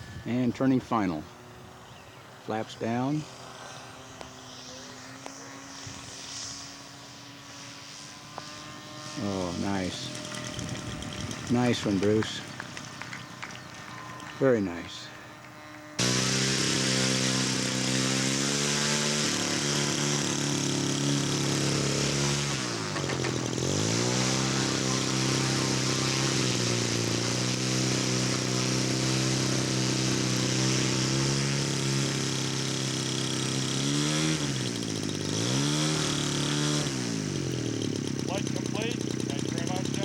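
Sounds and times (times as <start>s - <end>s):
model airplane engine running: 0.0s - 40.0s.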